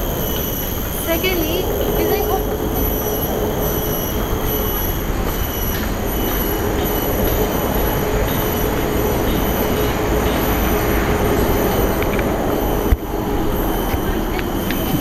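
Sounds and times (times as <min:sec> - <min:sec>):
cicadas droning: 0:00.0 - 0:15.0
wind rumble: 0:00.0 - 0:15.0.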